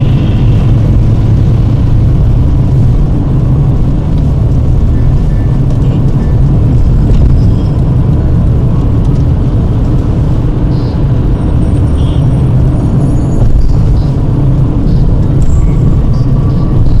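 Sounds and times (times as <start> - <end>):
car road and drivetrain rumble: 0.0 - 17.0.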